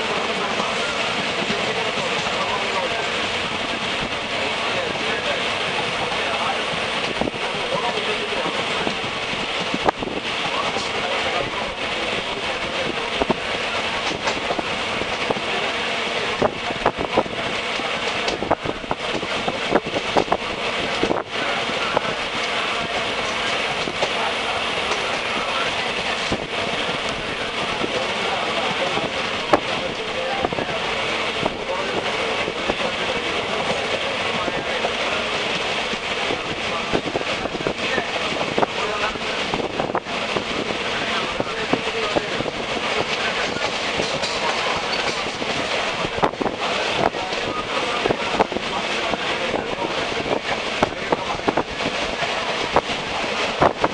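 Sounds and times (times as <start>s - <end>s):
train rumble and rushing air: 0.0s - 53.9s
wheels clacking and rattling: 0.0s - 53.9s.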